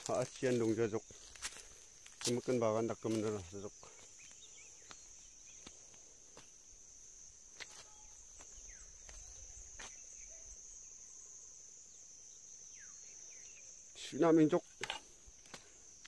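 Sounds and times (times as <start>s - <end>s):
insect chorus: 0.0s - 16.0s.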